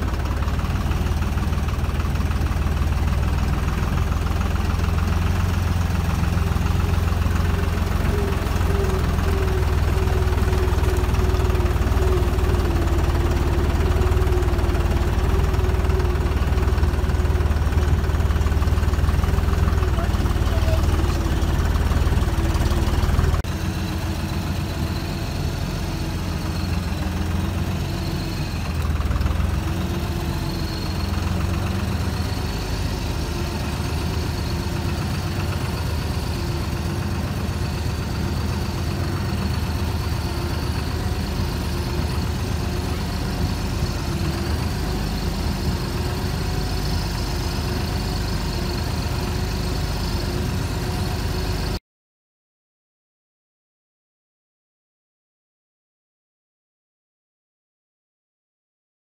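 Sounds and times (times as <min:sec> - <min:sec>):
tractor diesel engine running: 0:00.0 - 0:51.8.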